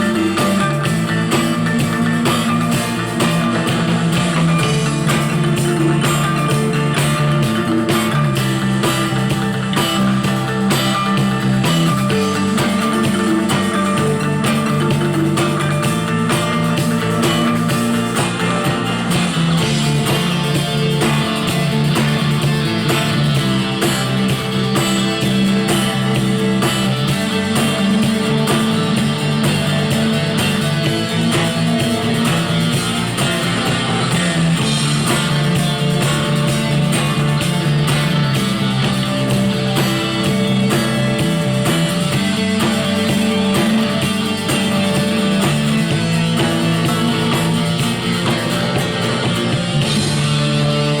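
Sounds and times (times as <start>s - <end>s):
instrumental rock music: 0.0s - 51.0s.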